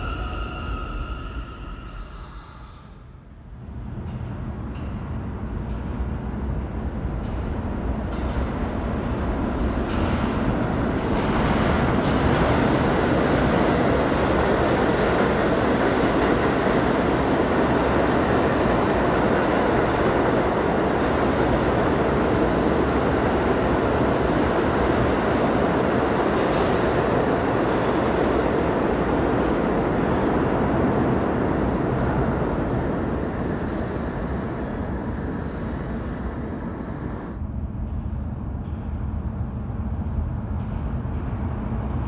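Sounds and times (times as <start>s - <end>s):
subway train wheels on rails: 0.0s - 42.0s.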